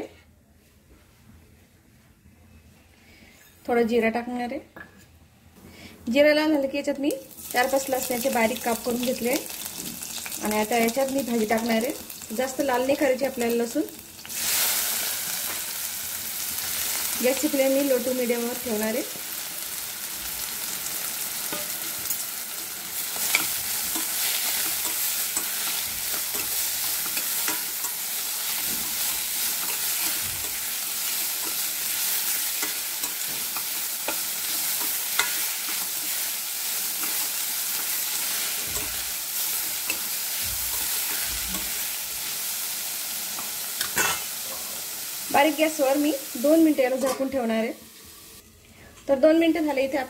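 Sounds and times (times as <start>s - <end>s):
greens sizzling in oil: 7.0s - 48.4s.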